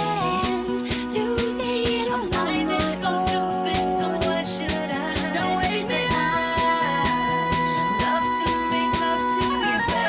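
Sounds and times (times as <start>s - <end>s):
pop dance music: 0.0s - 10.0s.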